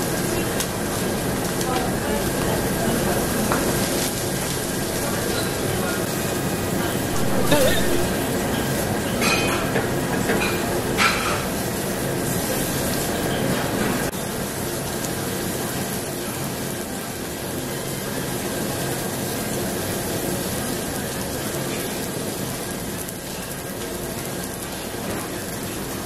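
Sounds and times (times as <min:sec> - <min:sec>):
meat sizzling on grill: 0:00.0 - 0:26.0.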